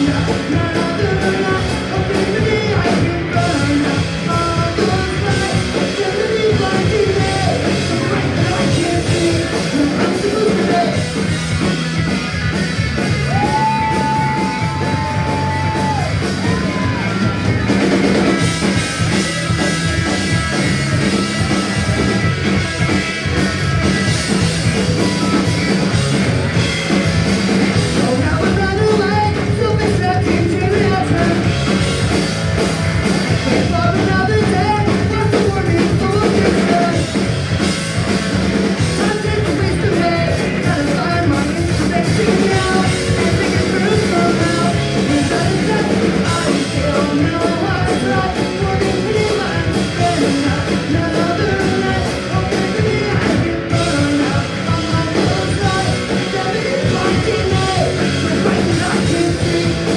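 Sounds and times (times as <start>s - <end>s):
person singing: 0.0s - 11.8s, 13.0s - 37.8s, 38.4s - 59.9s
bass guitar: 0.0s - 59.9s
distorted guitars: 0.0s - 59.9s
drum kit: 0.0s - 59.9s.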